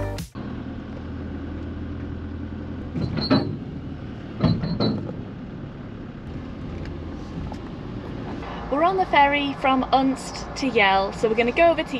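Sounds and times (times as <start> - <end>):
low engine hum: 0.0 - 11.9.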